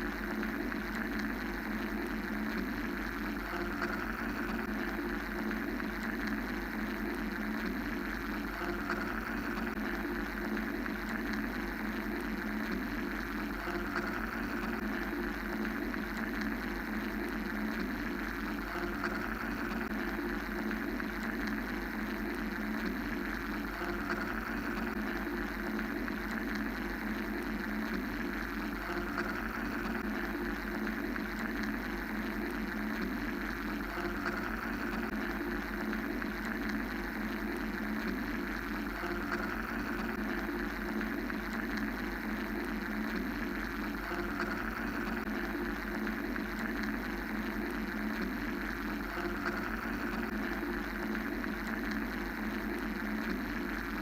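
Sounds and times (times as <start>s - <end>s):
mechanical white-noise drone: 0.0s - 54.0s.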